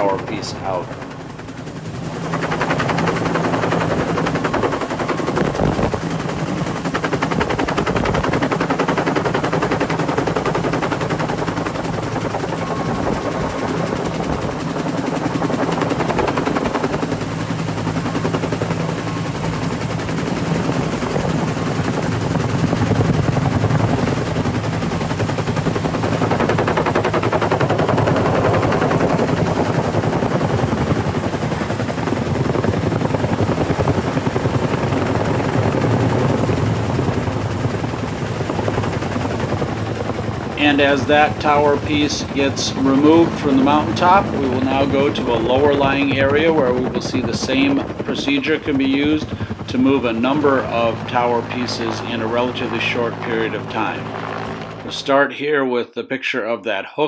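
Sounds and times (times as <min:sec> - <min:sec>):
helicopter rotor chop: 0:00.0 - 0:55.6.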